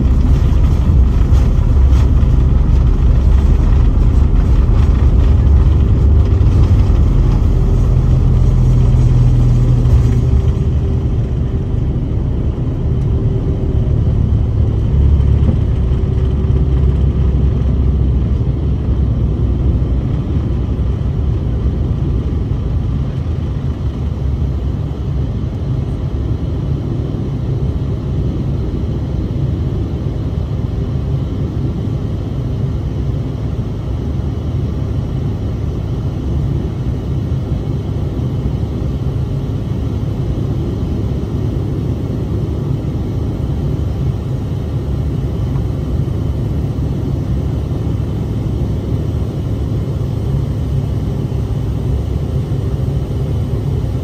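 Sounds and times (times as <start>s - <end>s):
jet cabin drone: 0.0s - 54.0s.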